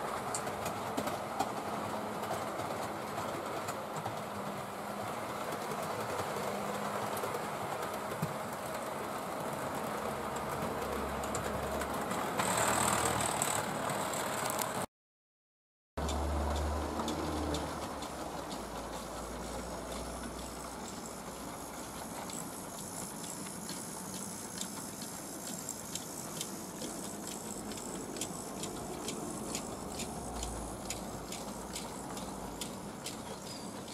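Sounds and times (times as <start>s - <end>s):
train wheels rattling over track joints: 0.0s - 14.8s, 16.0s - 33.9s.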